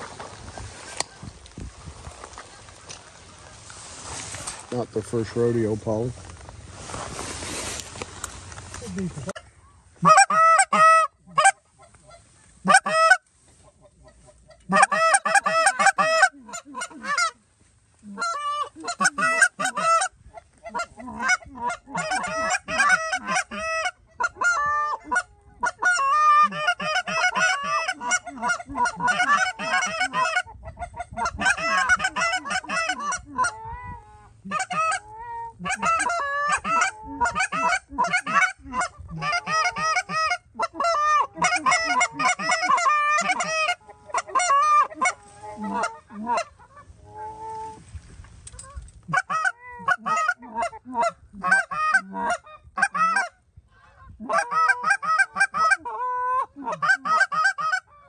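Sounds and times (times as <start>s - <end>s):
goose honking and clucking: 8.8s - 17.4s, 18.0s - 58.0s.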